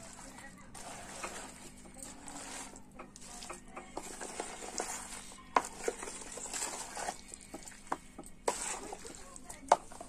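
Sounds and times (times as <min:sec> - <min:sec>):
hand mixing mango pieces: 0:00.0 - 0:10.0.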